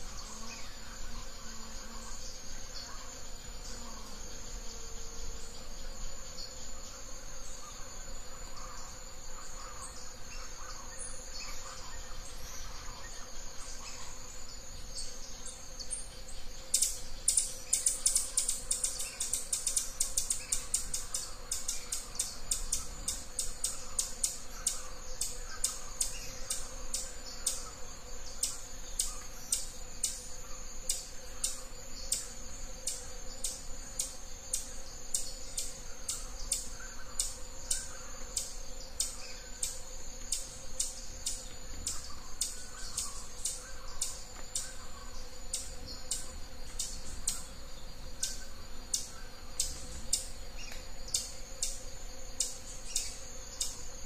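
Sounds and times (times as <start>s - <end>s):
faint chirps: 0.0s - 54.0s
insect chorus drone: 0.0s - 54.0s.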